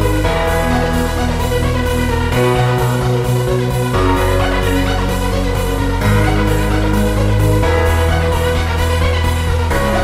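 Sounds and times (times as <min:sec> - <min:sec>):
background music with held chords: 0:00.0 - 0:10.0.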